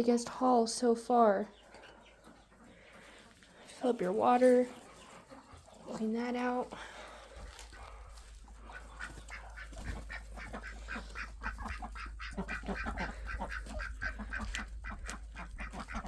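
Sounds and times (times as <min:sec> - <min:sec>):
ducks quacking: 0:01.6 - 0:16.0.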